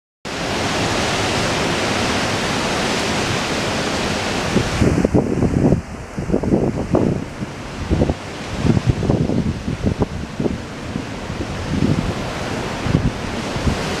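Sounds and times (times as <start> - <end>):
strong wind rushing: 0.3 - 14.0
wind gusts buffeting microphone: 0.3 - 14.0.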